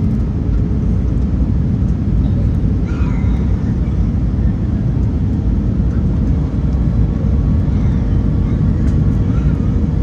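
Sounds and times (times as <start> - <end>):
airliner rumble: 0.0 - 10.0.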